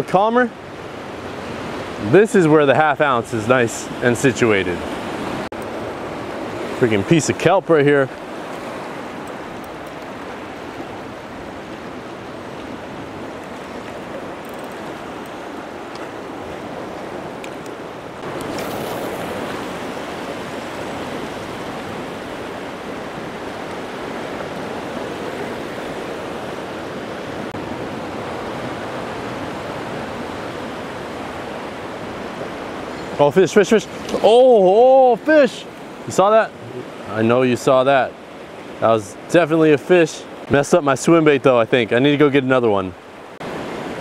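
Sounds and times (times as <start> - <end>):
surf rushing against rocks: 0.0 - 44.0.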